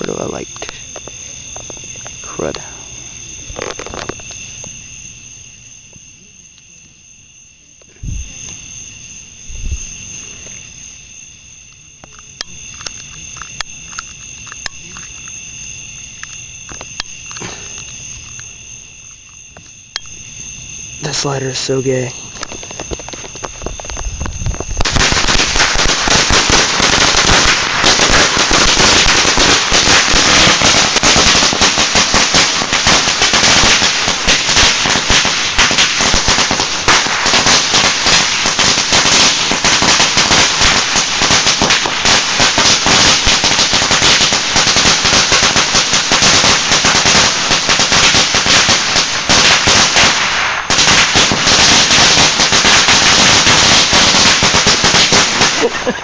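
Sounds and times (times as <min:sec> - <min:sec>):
firecrackers going off: 0:00.0 - 0:06.7, 0:07.3 - 0:56.0.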